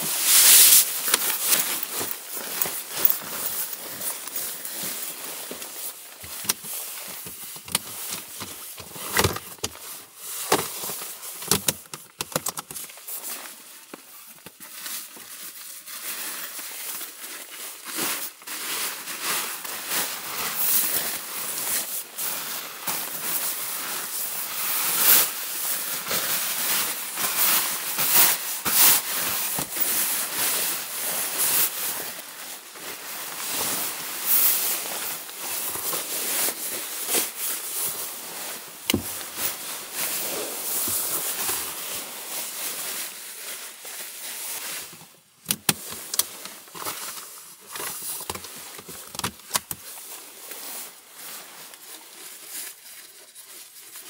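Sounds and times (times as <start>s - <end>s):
sleeping bag fabric rustling: 0.0s - 11.4s, 14.6s - 48.8s.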